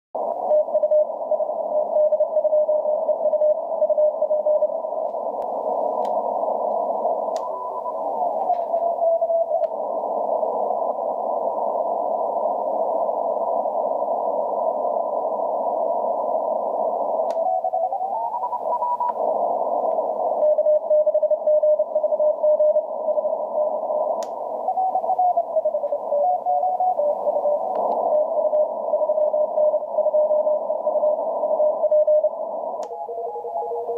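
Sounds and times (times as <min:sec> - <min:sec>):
radio band hiss: 0:00.2 - 0:33.9.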